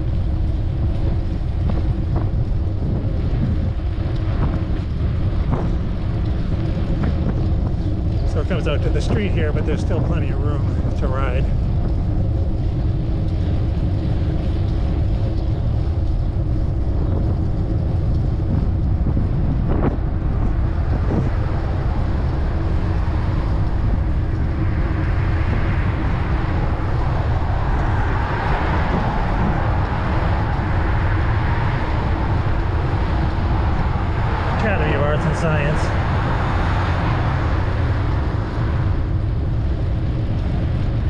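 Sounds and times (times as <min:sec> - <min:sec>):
street traffic passing: 0:00.0 - 0:41.0
wind rumble on microphone: 0:00.0 - 0:41.0.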